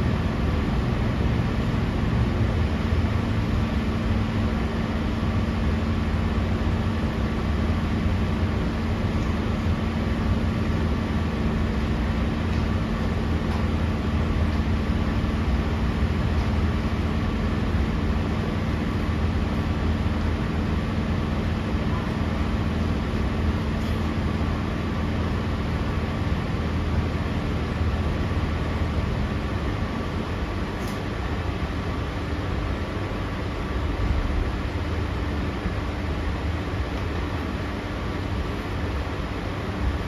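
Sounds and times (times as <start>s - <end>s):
train hum: 0.0s - 40.0s
train rumbling: 0.0s - 40.0s.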